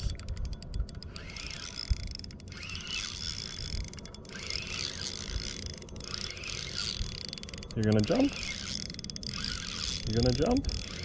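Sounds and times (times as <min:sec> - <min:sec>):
fishing reel cranking: 0:00.0 - 0:11.0.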